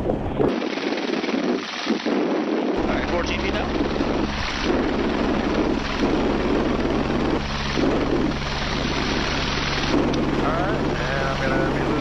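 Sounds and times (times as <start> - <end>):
helicopter hovering overhead: 0.0 - 12.0
rushing rotor wash: 0.2 - 12.0.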